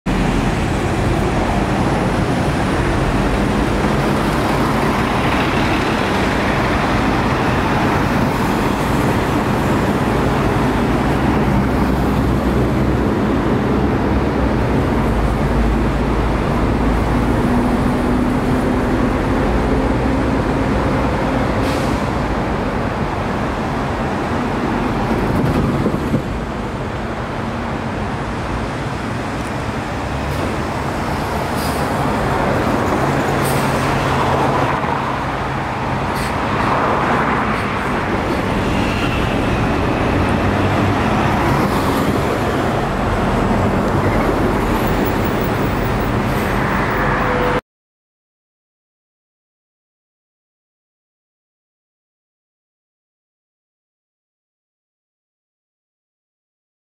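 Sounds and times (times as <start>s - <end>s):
bus engine droning: 0.1s - 47.6s
traffic driving past: 0.1s - 47.6s.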